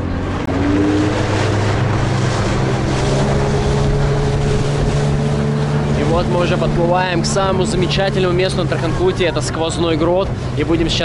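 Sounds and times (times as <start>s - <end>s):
motorboat engine running: 0.0s - 11.0s
water rushing past hull: 0.0s - 11.0s
wind on microphone: 0.0s - 11.0s.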